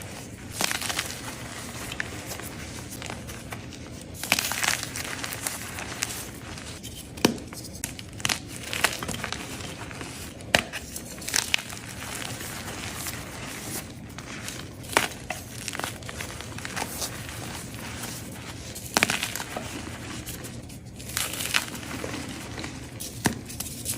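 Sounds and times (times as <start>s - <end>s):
chalk crunching and crumbling: 0.0s - 23.9s.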